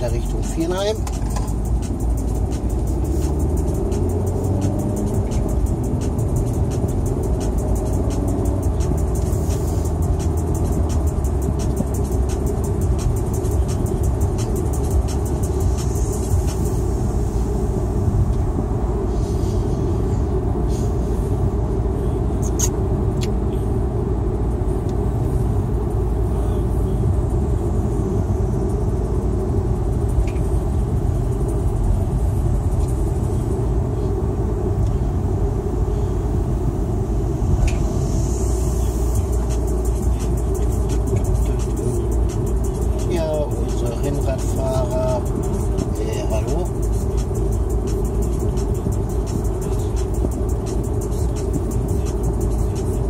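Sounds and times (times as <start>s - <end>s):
car driving interior rumble: 0.0s - 53.0s.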